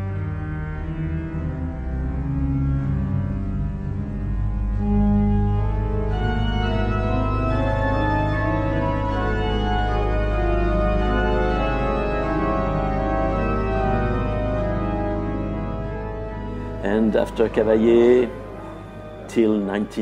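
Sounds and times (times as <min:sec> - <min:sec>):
pipe organ music: 0:00.0 - 0:20.0.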